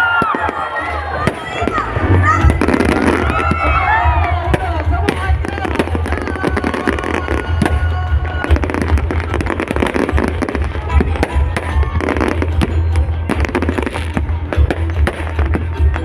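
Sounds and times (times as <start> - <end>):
fireworks bangs and crackles: 0.0 - 16.0
loud music with heavy bass: 1.0 - 16.0.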